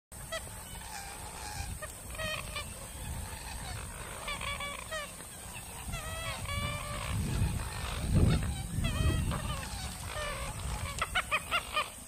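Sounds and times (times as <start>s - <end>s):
marsh bird honking: 0.2s - 12.0s.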